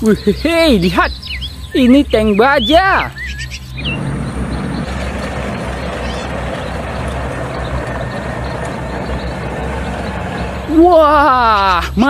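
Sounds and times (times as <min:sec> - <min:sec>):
tank engine low rumble: 0:00.0 - 0:11.8.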